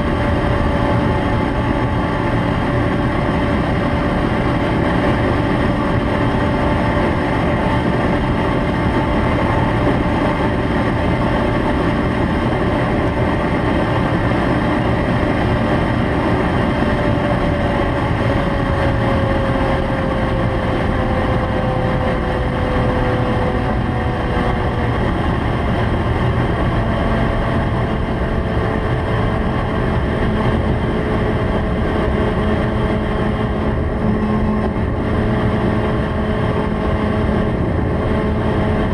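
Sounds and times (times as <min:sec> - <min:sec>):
motorcycle engine running hard: 0:00.0 - 0:38.9.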